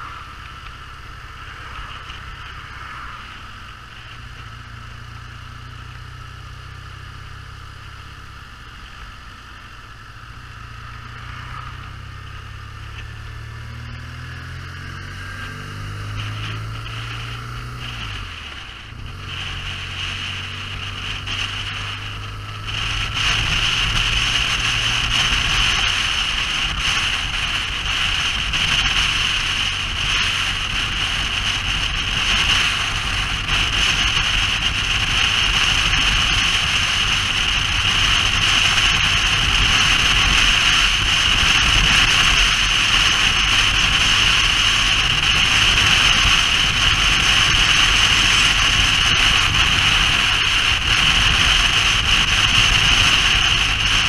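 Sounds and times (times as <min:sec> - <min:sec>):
motorcycle engine rumble: 0:00.0 - 0:54.0
wind and road noise: 0:00.0 - 0:54.0.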